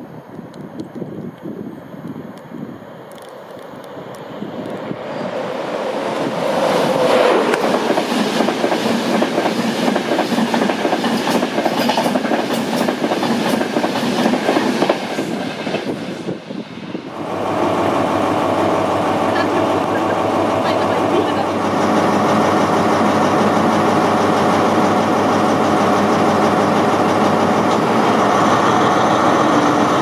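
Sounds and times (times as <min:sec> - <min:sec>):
train rushing past: 0:03.5 - 0:30.0.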